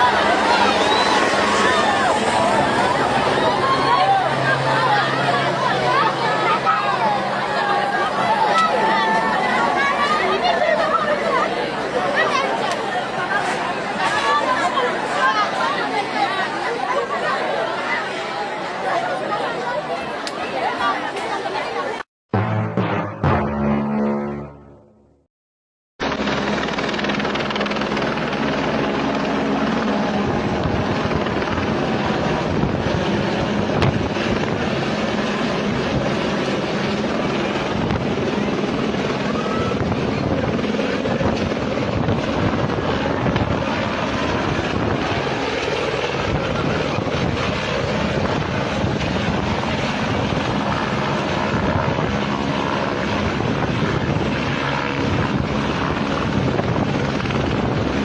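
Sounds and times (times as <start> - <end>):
helicopter rotor and turbine: 0.0 - 21.1, 26.0 - 58.0.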